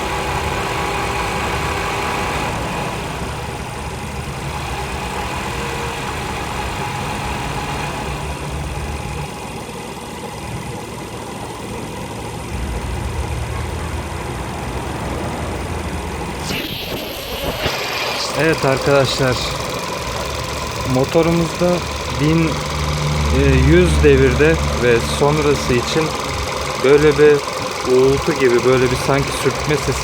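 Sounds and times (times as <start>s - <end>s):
car engine droning: 0.0s - 30.0s.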